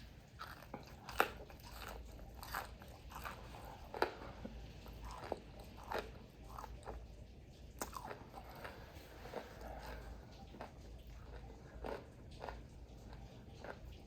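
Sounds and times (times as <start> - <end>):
chewing crispy fried food: 0.0 - 14.0.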